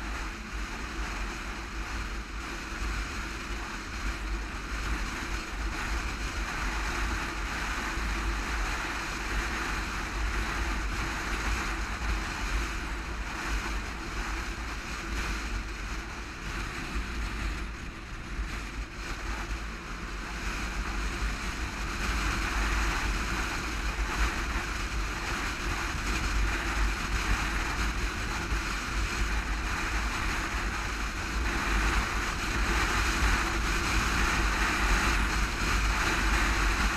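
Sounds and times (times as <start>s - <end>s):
road noise: 0.0s - 36.9s.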